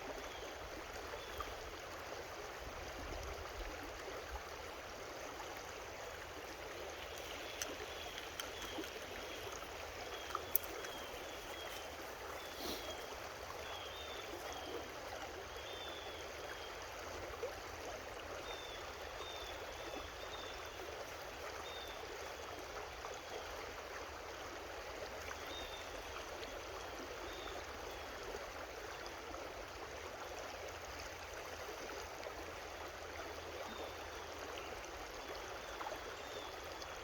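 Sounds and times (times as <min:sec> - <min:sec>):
creek water babbling: 0:00.0 - 0:37.0.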